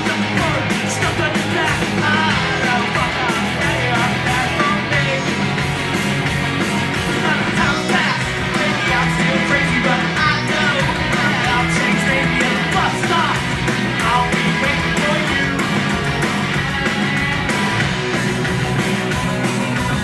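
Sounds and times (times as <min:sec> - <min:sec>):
fast punk drum beat: 0:00.0 - 0:20.0
rock band playing live: 0:00.0 - 0:20.0.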